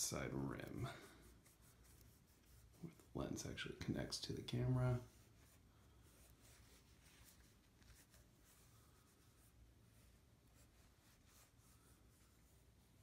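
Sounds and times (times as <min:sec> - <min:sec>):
cloth rubbing on metal: 0:00.0 - 0:13.0.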